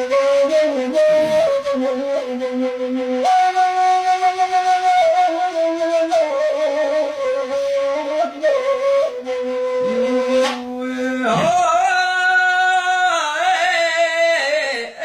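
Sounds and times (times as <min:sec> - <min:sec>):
reed flute playing: 0:00.0 - 0:12.3.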